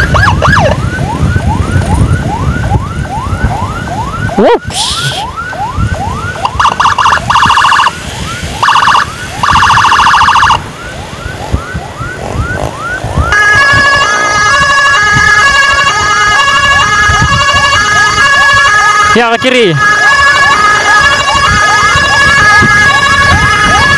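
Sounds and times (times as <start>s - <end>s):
siren alternating tones: 0.0s - 23.9s
siren fast warble: 0.0s - 23.9s
siren rising whoop: 0.0s - 23.9s.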